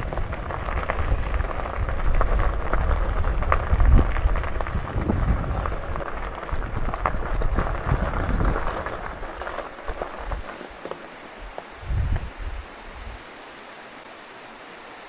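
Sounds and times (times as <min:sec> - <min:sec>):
clicks and crackle: 0:00.0 - 0:12.3
wind buffeting microphone: 0:00.0 - 0:13.4.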